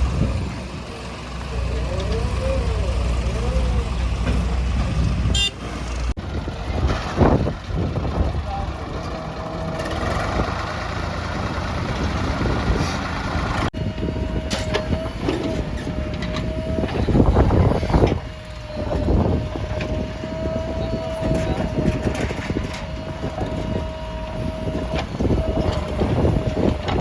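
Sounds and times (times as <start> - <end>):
diesel machinery running: 0.0 - 27.0.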